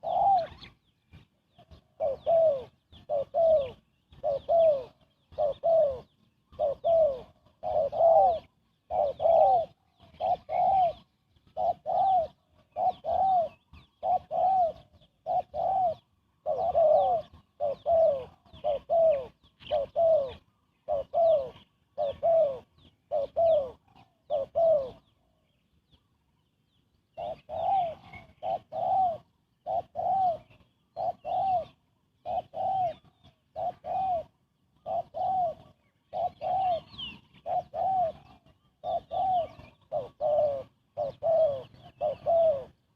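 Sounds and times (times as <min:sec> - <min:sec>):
dove cooing: 0:00.0 - 0:26.2, 0:27.1 - 0:42.9.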